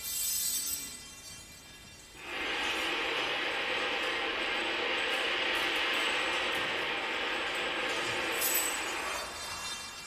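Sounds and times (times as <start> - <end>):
percussion rattling: 0.0 - 10.0.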